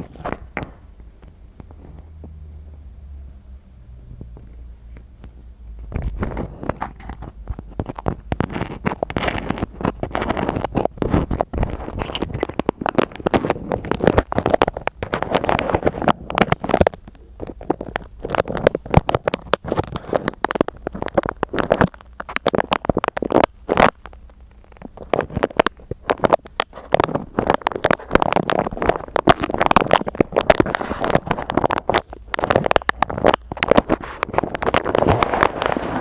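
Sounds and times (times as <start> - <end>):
crackly scratching strokes: 0.0 - 1.0, 5.8 - 36.0.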